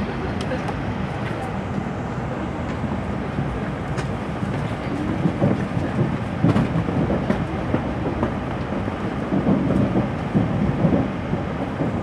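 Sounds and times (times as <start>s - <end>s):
train running low rumble: 0.0s - 12.0s.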